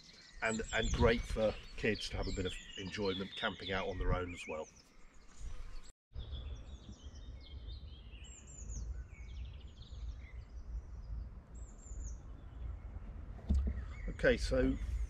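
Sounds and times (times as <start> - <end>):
songbirds chirping: 0.0 - 15.0
wind rumbling on microphone: 0.4 - 2.8, 3.7 - 4.5, 5.2 - 15.0.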